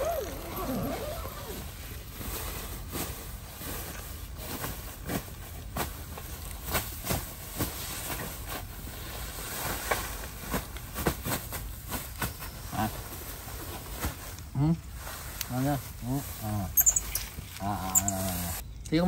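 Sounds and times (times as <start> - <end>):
crackling foil mat and grass: 0.0 - 19.0
steady low hiss: 0.0 - 19.0.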